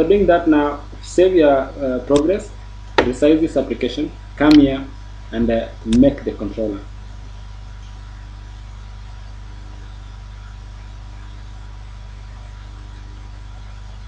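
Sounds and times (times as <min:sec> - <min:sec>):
even hiss: 0:00.0 - 0:14.0
low hum: 0:00.0 - 0:14.0.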